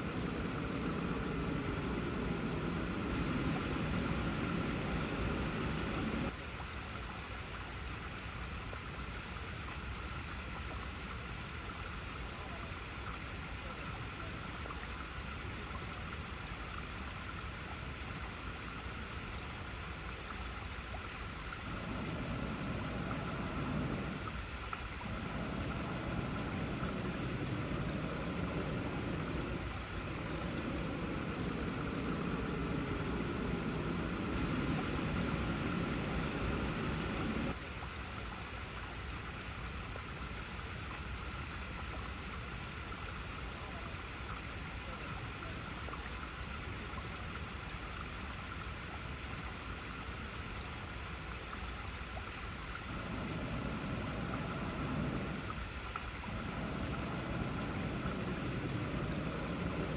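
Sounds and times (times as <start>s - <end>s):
water splashing over rocks: 0.0s - 59.9s.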